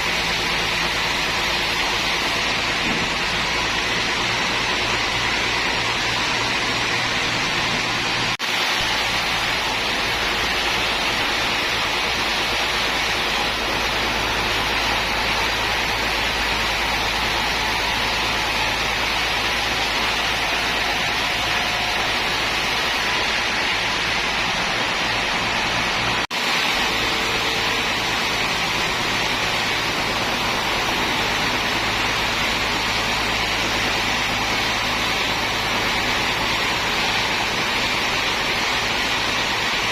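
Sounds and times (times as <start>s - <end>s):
sawmill machinery rushing: 0.0s - 39.9s.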